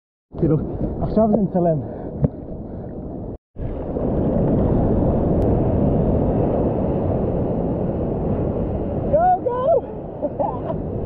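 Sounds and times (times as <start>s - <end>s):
wind on microphone: 0.4s - 11.0s.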